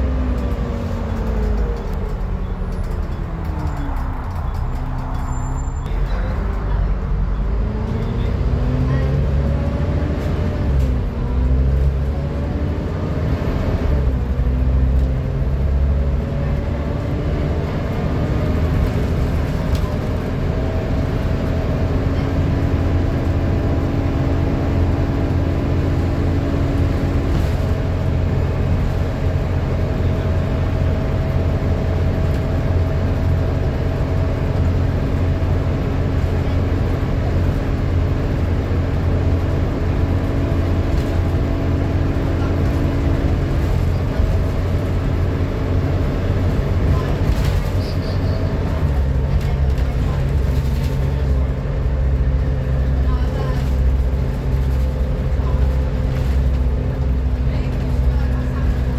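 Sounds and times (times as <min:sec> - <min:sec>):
diesel bus engine drone: 0:00.0 - 0:58.9.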